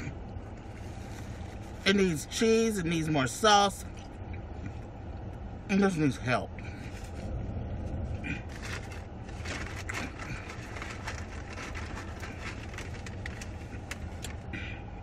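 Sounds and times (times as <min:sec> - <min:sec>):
car engine idling hum: 0:00.0 - 0:15.0.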